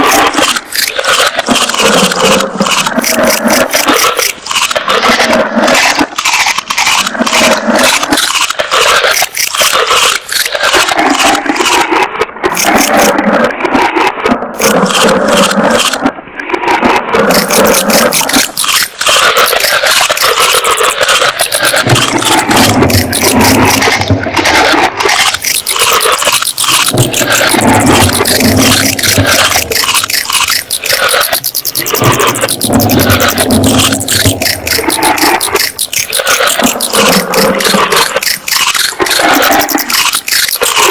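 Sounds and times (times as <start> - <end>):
crunching and scraping: 0.0 - 11.9, 17.2 - 40.9.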